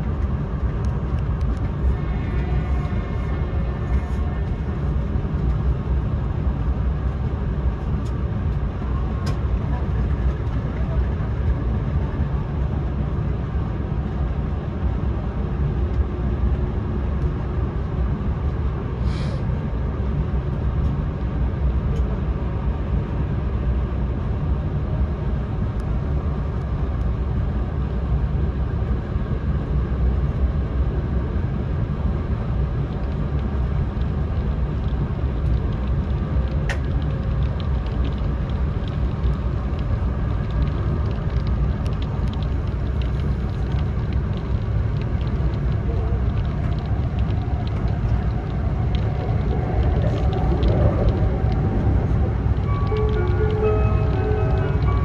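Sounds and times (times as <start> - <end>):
train rumbling from inside: 0.0 - 55.0.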